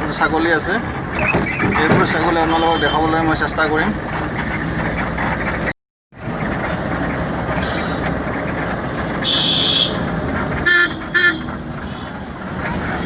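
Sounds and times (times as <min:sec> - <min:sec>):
vehicle road noise: 0:00.0 - 0:13.0.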